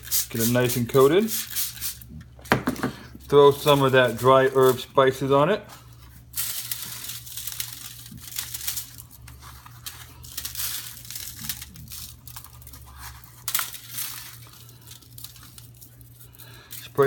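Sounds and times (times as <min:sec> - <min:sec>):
low steady hum: 0:00.0 - 0:17.0
aluminium foil crinkling: 0:03.3 - 0:17.0.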